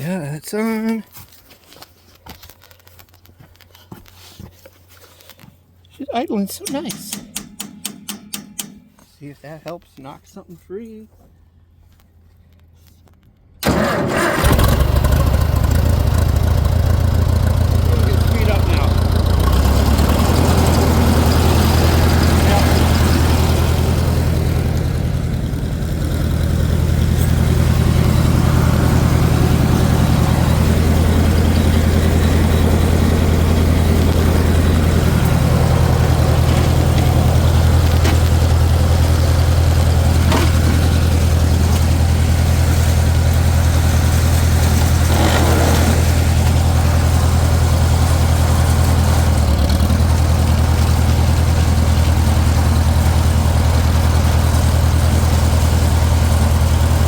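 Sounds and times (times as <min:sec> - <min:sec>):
tractor engine running: 0:01.7 - 0:57.0.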